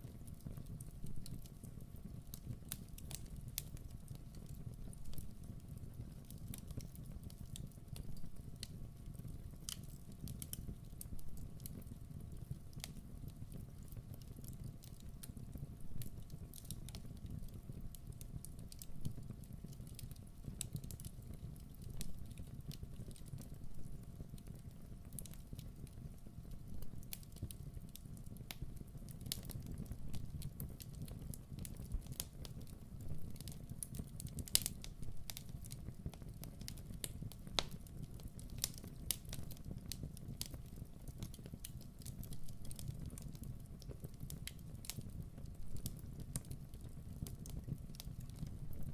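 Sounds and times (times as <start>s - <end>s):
fire crackling and popping: 0.0s - 48.9s.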